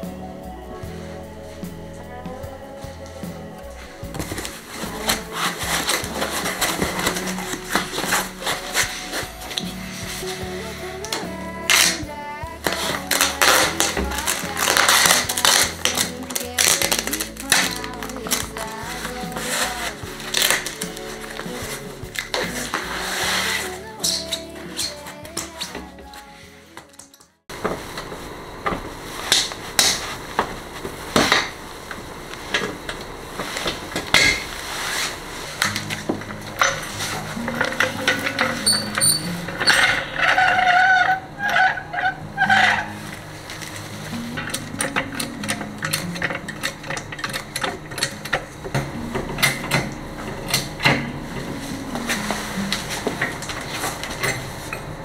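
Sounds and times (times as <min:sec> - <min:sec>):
background music: 0:00.0 - 0:27.5, 0:34.1 - 0:55.0
floor jack clicking and clanking: 0:02.0 - 0:26.2, 0:28.7 - 0:54.9.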